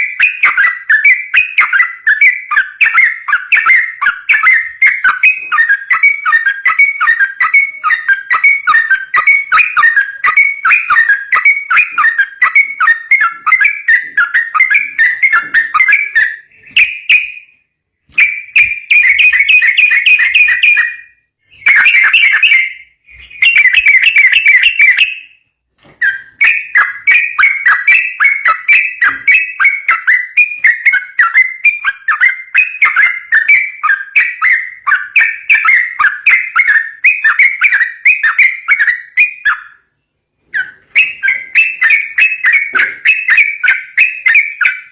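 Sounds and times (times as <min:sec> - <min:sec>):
bulbul singing chattering song: 0:00.0 - 0:25.4, 0:26.0 - 0:44.9.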